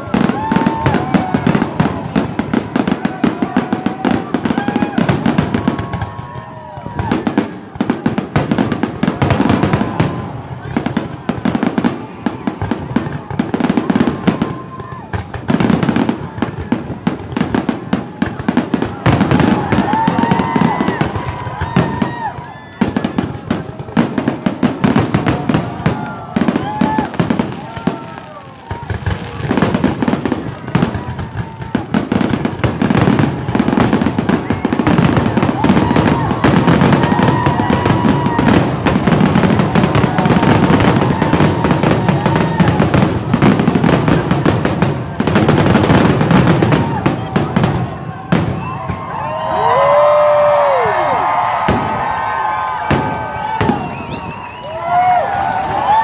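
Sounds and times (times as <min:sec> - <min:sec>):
fireworks bangs and crackle: 0:00.0 - 0:56.0
whistling fireworks: 0:00.0 - 0:56.0.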